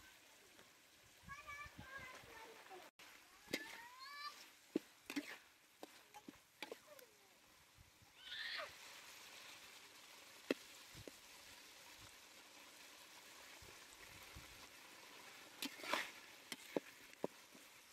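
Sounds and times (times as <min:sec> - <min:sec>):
food frying in hot oil: 0:00.0 - 0:17.9
oil popping and crackling: 0:00.0 - 0:17.9.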